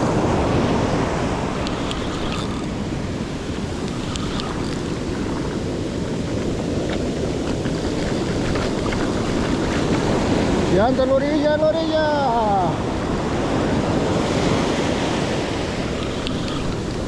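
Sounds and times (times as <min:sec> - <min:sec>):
ocean surf washing up: 0:00.0 - 0:17.0
wind on microphone: 0:00.0 - 0:17.0.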